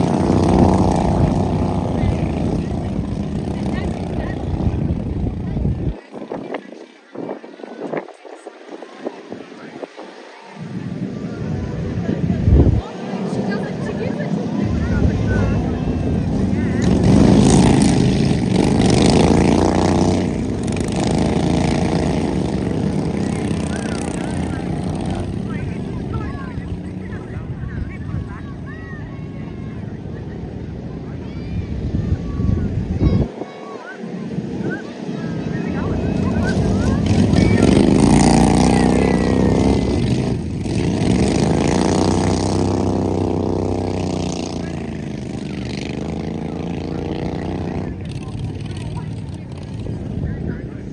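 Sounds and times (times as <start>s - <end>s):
racing lawn mower engines: 0.0s - 50.9s.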